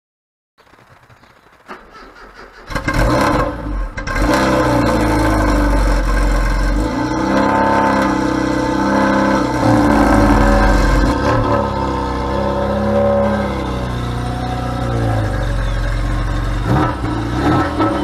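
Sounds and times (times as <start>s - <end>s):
car engine cranking and running: 0.6s - 18.0s.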